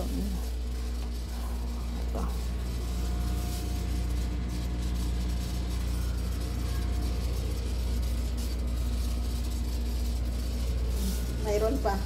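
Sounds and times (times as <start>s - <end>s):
faint steady tones: 0.0s - 12.0s
low machine hum: 0.0s - 12.0s.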